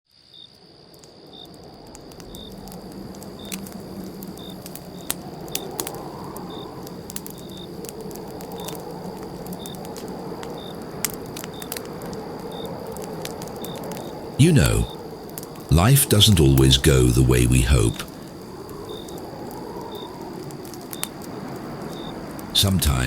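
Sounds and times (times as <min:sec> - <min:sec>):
crickets chirping: 0:00.1 - 0:23.0
campfire crackling and popping: 0:00.9 - 0:23.0.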